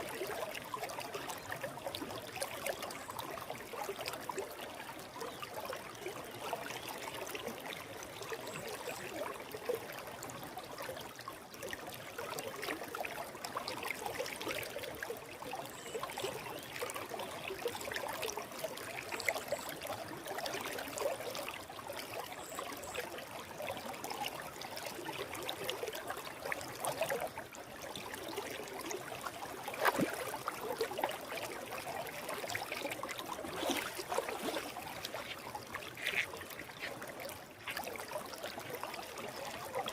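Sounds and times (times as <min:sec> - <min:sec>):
water splashes and gurgles: 0:00.0 - 0:39.9.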